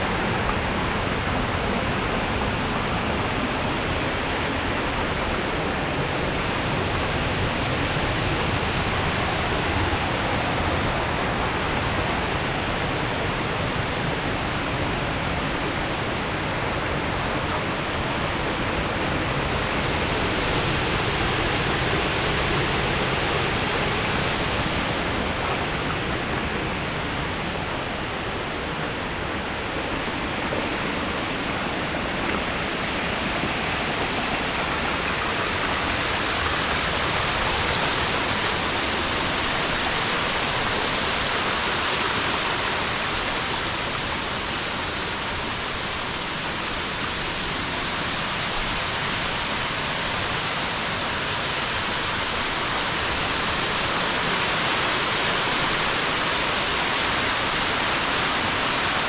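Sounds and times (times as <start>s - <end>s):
water rushing down waterfall: 0.0s - 59.0s.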